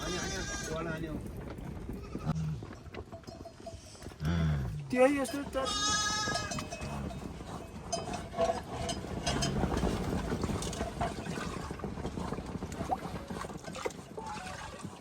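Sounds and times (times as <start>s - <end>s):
wind buffeting microphone: 0.0s - 3.2s, 4.8s - 15.0s.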